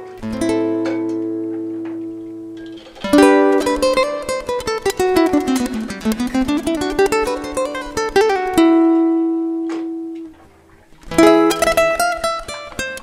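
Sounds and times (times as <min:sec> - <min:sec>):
picked acoustic guitar: 0:00.0 - 0:13.0.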